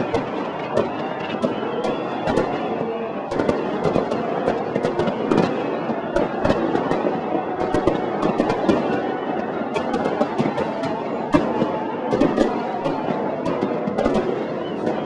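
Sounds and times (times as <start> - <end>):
fireworks bangs and crackling pops: 0.0 - 15.0
steady background din: 0.0 - 15.0.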